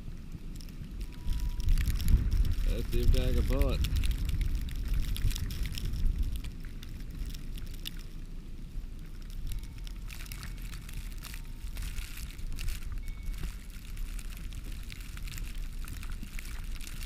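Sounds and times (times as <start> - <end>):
light crackling: 0.0 - 17.0
wind buffeting microphone: 0.0 - 17.0.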